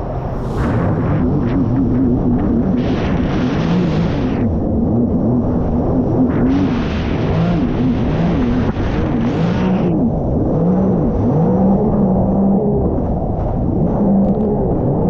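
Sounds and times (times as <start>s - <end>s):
jet ski engine running: 2.6s - 15.0s.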